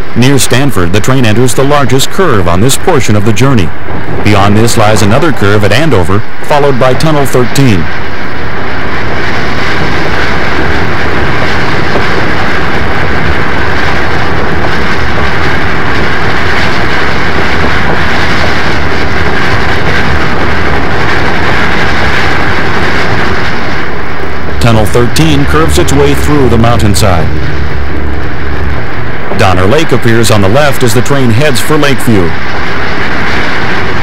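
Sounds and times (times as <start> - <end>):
train wheels on rails: 3.7 - 34.0.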